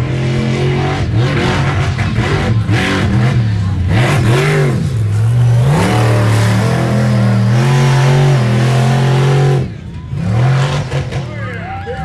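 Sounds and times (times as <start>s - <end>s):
truck engine revving hard: 0.0s - 11.6s.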